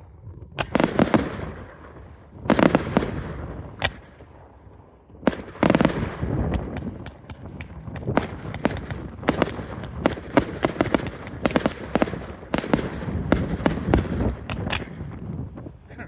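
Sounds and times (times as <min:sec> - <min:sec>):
crackling rumble: 0:00.0 - 0:16.0
fireworks bangs: 0:00.6 - 0:15.7.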